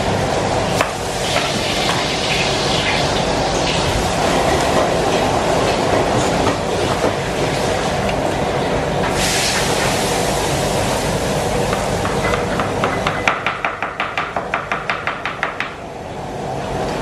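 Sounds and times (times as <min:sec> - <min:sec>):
rushing kitchen noise: 0:00.0 - 0:17.0.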